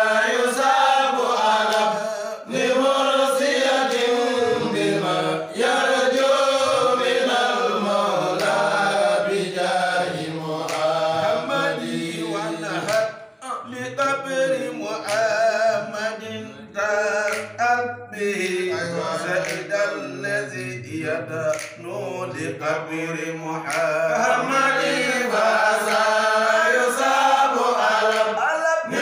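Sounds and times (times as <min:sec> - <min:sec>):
men chanting a devotional hymn: 0:00.0 - 0:29.0.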